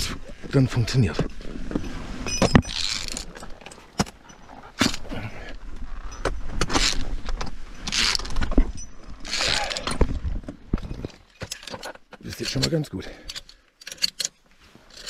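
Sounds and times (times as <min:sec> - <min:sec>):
carabiners clinking on steel cable: 0:01.0 - 0:05.3, 0:05.9 - 0:10.1, 0:10.8 - 0:15.0.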